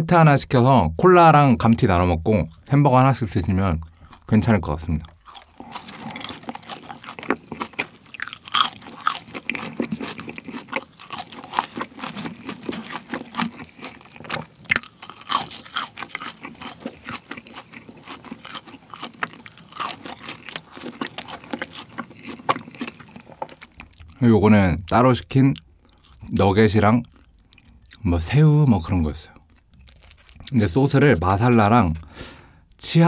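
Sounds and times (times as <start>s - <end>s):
crunching crispy fries: 3.8s - 24.2s, 25.4s - 28.0s, 29.0s - 32.6s.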